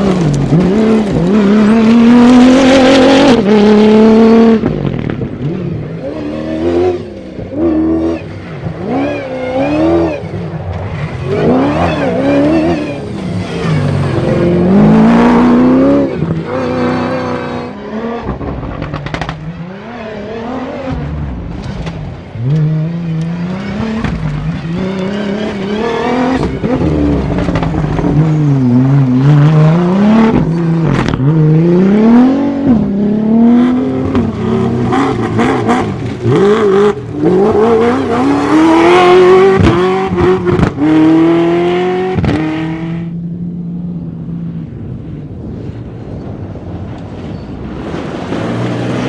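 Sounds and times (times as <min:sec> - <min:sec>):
rally car engine revving: 0:00.0 - 0:44.7.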